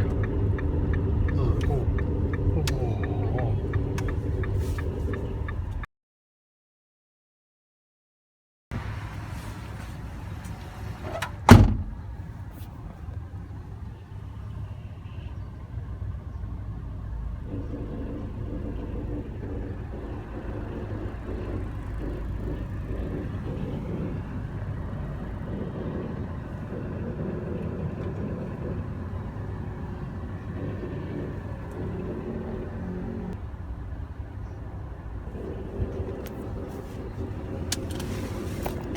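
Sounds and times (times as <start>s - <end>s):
car cabin road rumble: 0.0s - 5.9s, 8.7s - 38.9s.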